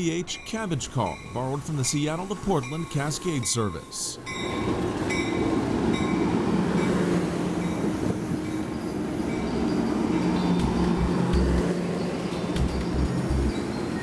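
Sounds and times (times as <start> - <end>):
train bell clanging: 0.0 - 14.0
train rumbling and humming: 0.0 - 14.0.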